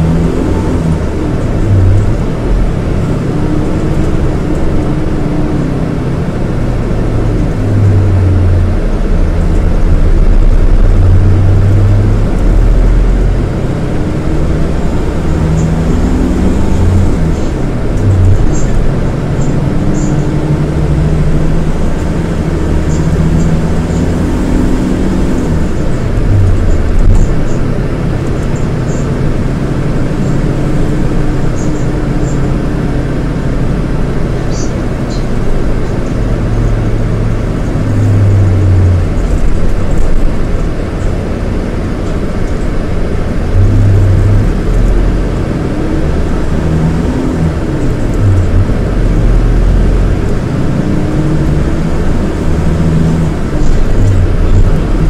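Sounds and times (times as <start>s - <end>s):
diesel bus engine running: 0.0s - 55.0s
gear changes: 0.0s - 55.0s.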